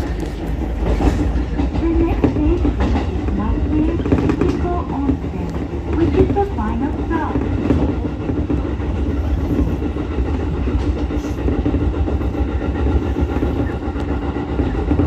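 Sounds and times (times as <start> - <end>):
train motor hum: 0.0 - 15.0
wheels rumbling on rail: 0.0 - 15.0.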